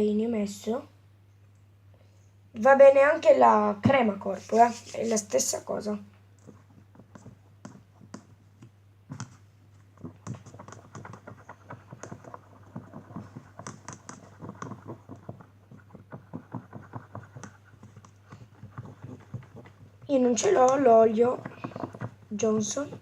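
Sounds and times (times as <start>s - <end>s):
slime being stirred in a bowl: 4.2s - 23.0s.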